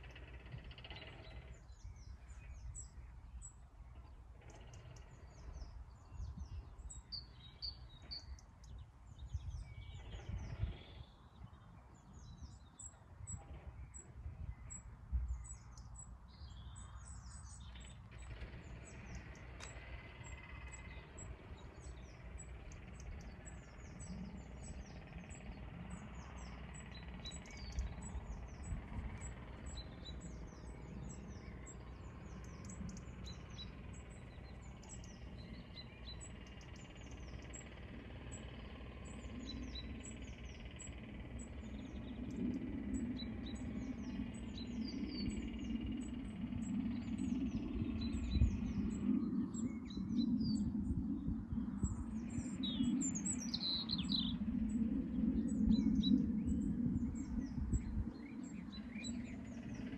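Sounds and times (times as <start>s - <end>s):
small birds chirping: 0.0s - 59.9s
low rumble: 0.1s - 59.9s.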